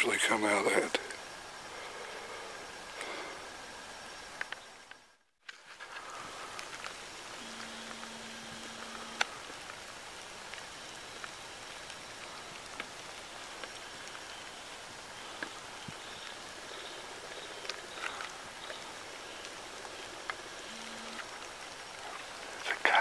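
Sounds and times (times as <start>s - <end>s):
light rain on leaves: 0.0s - 23.0s.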